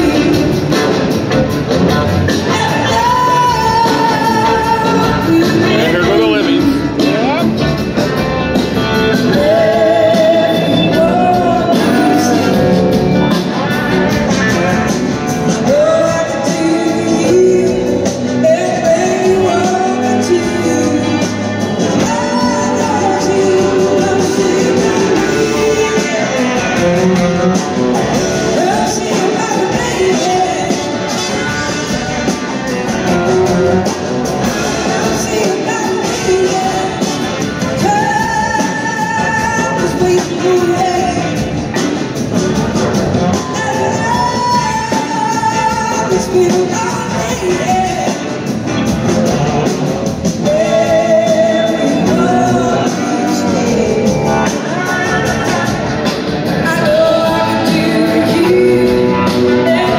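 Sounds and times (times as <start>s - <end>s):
live rock band performing: 0.0s - 59.9s
person singing: 2.2s - 7.6s, 8.8s - 59.9s.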